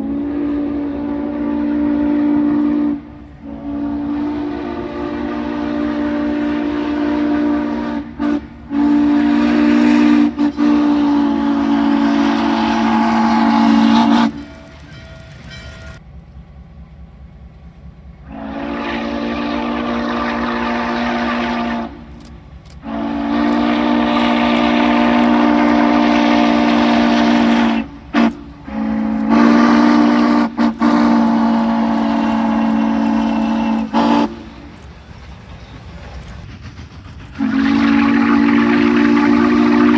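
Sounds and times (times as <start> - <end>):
steam locomotive chime whistle: 0.0 - 16.0, 18.3 - 36.4, 37.3 - 39.9.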